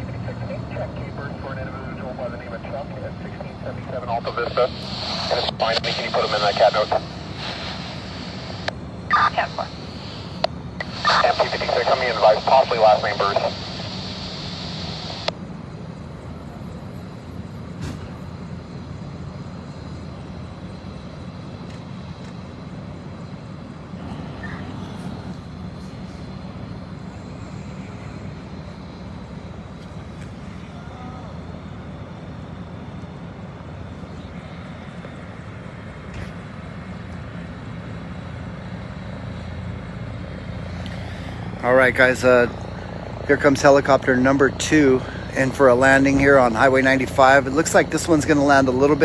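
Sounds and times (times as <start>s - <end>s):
helicopter engine and rotor drone: 0.0s - 49.0s.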